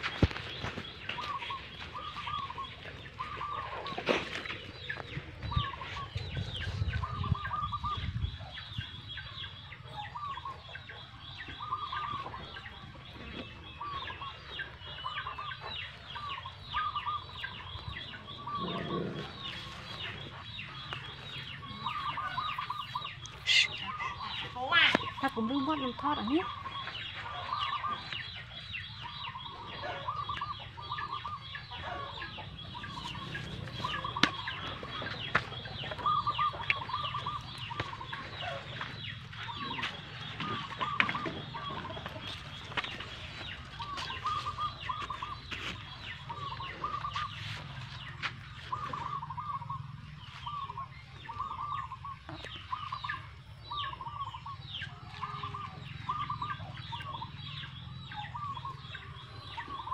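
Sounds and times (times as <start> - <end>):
bird clucking call: 0.0 - 59.9
birds chirping: 0.0 - 59.9.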